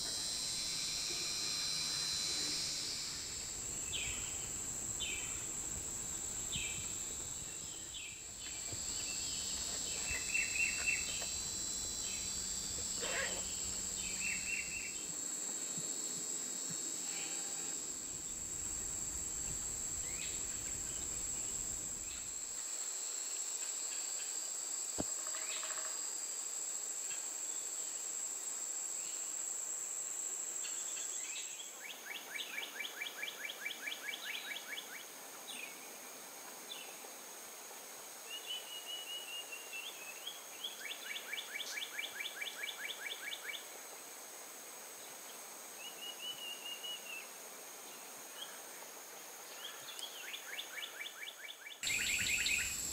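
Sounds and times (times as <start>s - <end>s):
high-pitched insect drone: 0.0s - 52.9s.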